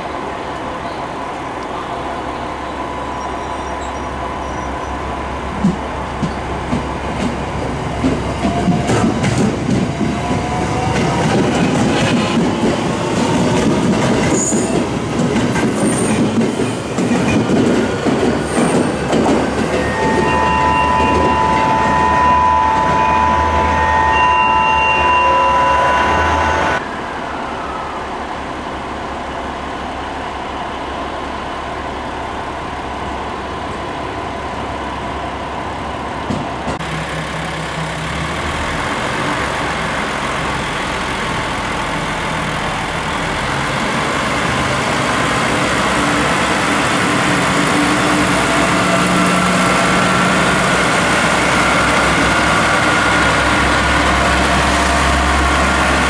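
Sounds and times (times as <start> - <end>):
train diesel engine humming: 0.0 - 56.0.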